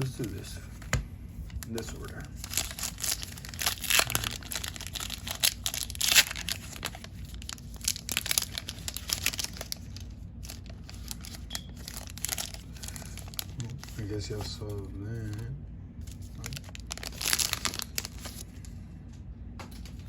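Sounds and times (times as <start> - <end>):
foil wrapper tearing and crinkling: 1.5 - 15.4, 16.0 - 18.6.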